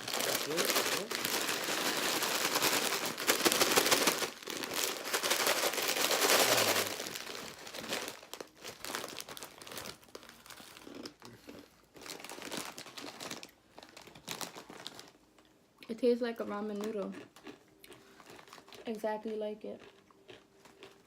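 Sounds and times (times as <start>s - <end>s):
plastic packet crinkling: 0.0s - 11.3s, 11.9s - 15.4s, 16.6s - 21.0s
dry noodles crunching: 0.0s - 15.2s, 16.8s - 19.0s, 19.8s - 21.0s.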